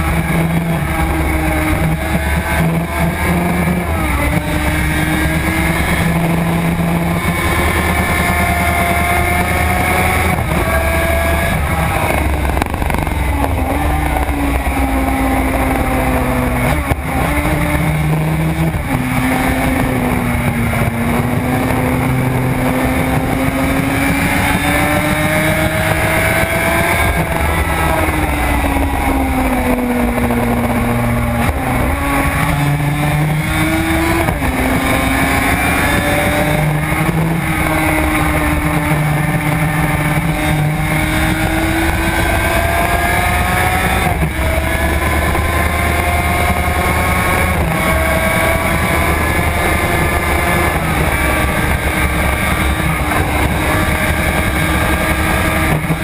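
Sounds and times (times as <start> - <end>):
motorcycle engine revving: 0.0 - 56.0
wind on microphone: 0.0 - 56.0.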